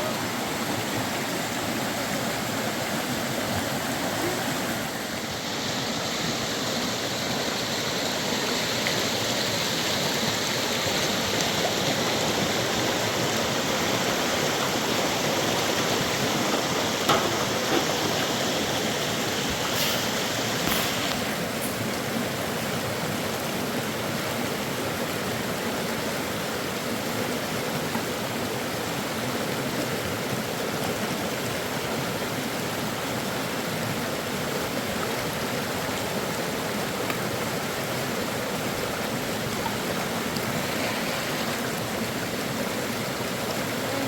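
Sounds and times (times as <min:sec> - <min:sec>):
flowing water rushing: 0:00.0 - 0:44.0.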